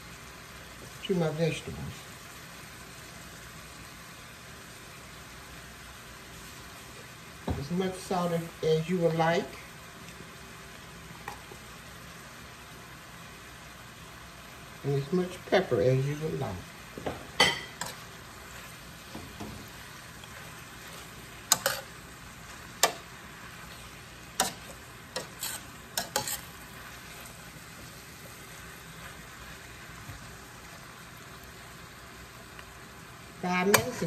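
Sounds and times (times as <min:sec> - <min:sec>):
vegetables sizzling in a pan: 0:00.0 - 0:34.0.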